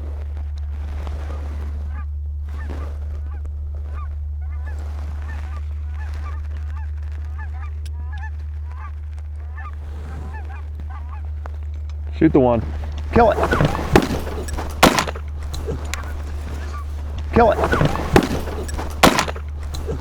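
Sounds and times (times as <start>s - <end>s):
geese honking: 0.0s - 20.0s
low rumble: 0.0s - 20.0s.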